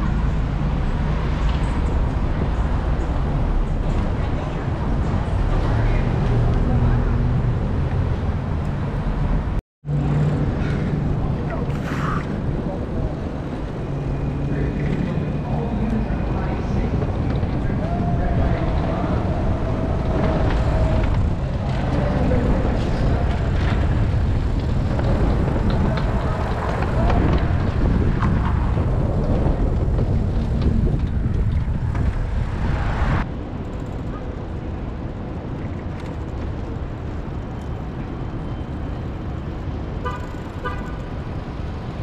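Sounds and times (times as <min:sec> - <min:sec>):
wind buffeting microphone: 0:00.0 - 0:40.1
city street noise: 0:00.0 - 0:42.0.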